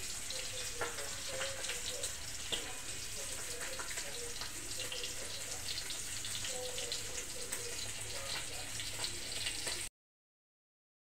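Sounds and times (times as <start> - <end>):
fish frying in sizzling oil: 0.0 - 9.9.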